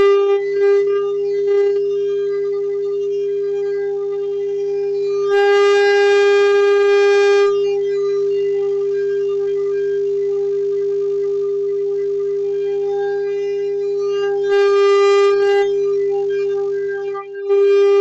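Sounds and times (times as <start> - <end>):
conch shell blown: 0.0 - 11.1, 12.2 - 18.0.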